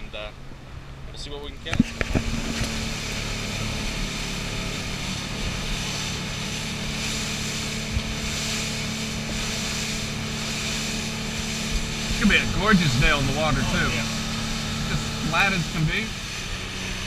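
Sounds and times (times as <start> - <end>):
outboard engine droning: 0.0 - 17.0
wind and water hiss: 0.0 - 17.0.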